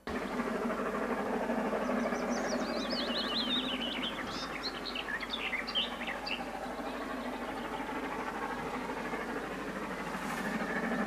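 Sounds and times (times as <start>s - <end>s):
distant steam locomotive working: 0.0s - 11.0s
songbird twittering: 1.8s - 10.9s.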